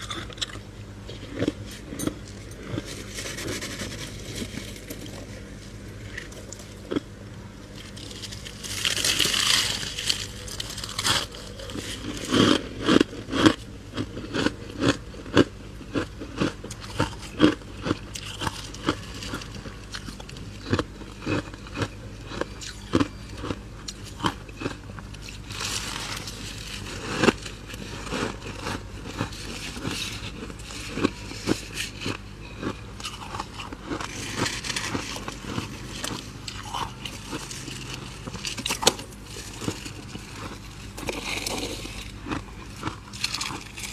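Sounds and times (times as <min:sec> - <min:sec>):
crunching frost being chewed: 0:00.0 - 0:43.9.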